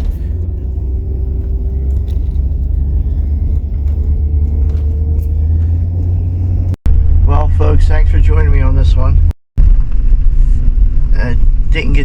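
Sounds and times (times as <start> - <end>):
truck cab road rumble: 0.0 - 12.0.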